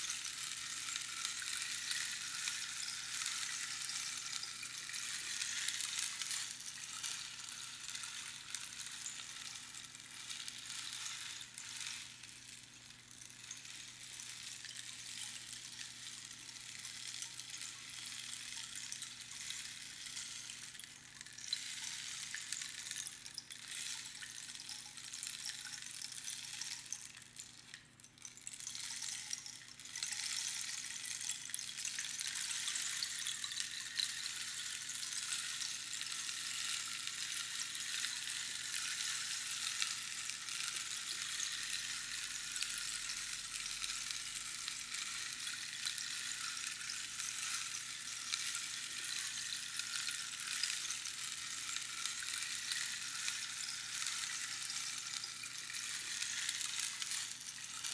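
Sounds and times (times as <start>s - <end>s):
rainstick pebbles hissing: 0.0s - 57.9s.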